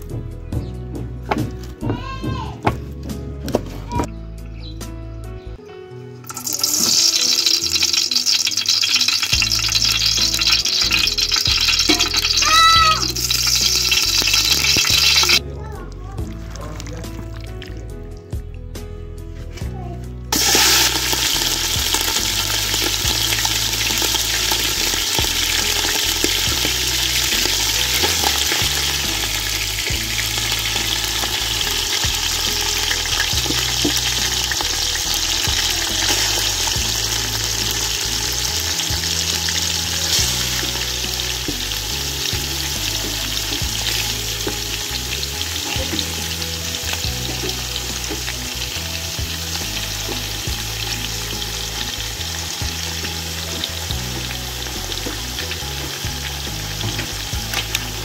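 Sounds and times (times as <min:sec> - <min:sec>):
oil popping and crackling: 0:06.2 - 0:18.4, 0:20.3 - 0:58.0
meat sizzling in hot oil: 0:06.3 - 0:15.4, 0:20.3 - 0:58.0.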